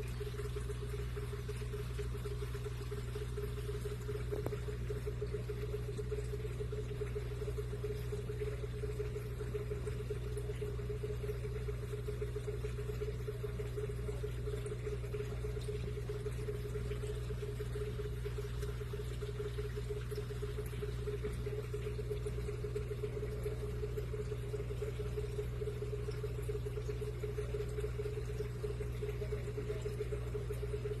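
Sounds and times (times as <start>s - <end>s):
aquarium equipment humming: 0.0s - 31.0s
water bubbling: 0.0s - 31.0s.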